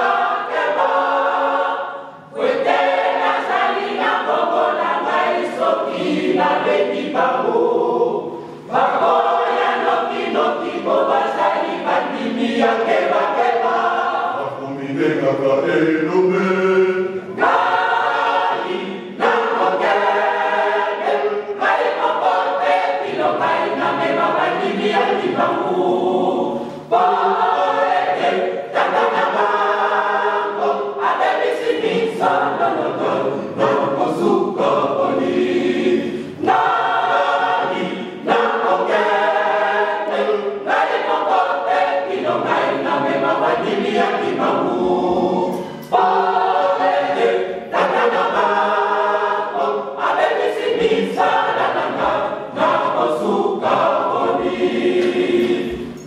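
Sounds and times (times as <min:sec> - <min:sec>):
mixed choir singing unaccompanied: 0:00.0 - 0:56.0.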